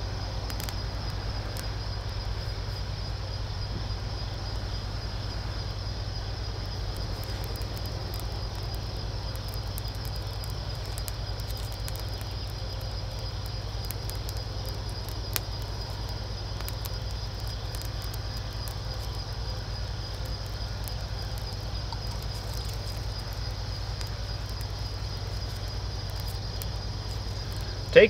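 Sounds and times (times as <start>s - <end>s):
campfire crackling and popping: 0.0s - 28.0s
high insect drone: 0.0s - 28.0s
low constant rumble: 0.0s - 28.0s.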